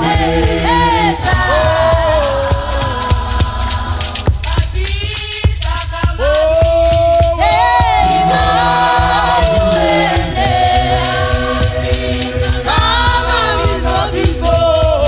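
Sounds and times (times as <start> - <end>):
choir singing gospel: 0.0 - 15.0
jingling rattle percussion: 0.0 - 15.0.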